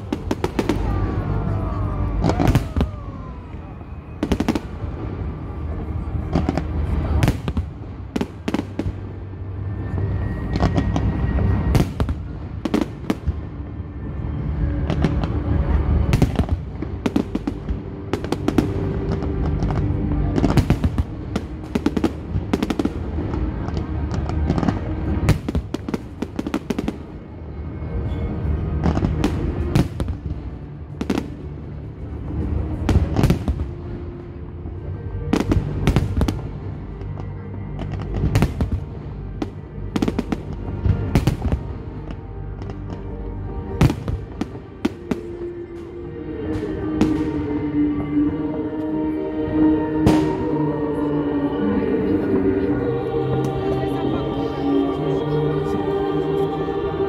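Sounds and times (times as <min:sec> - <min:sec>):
fireworks bangs and crackles: 0:00.0 - 0:47.7, 0:50.0 - 0:50.6
continuous low rumble: 0:00.0 - 0:57.0.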